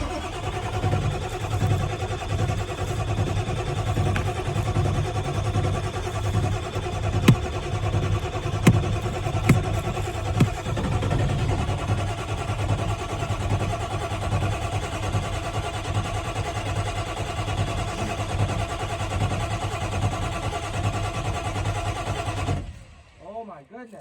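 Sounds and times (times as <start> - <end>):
diesel engine cold starting: 0.0 - 23.2.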